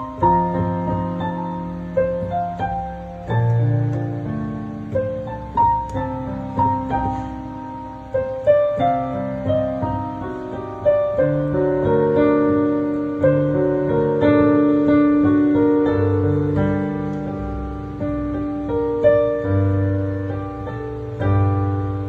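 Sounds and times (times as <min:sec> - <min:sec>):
slow gentle piano melody: 0:00.0 - 0:22.0.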